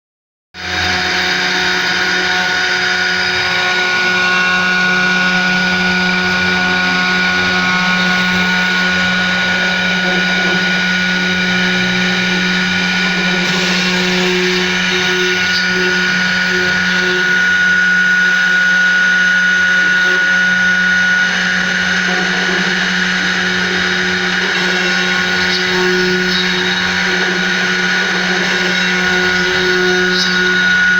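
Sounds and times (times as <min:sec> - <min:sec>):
cnc router spindle whine: 0:00.6 - 0:30.9.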